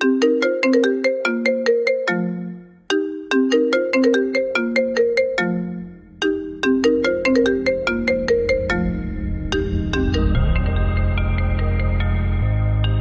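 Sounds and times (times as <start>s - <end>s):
phone ringtone melody: 0.0s - 13.0s.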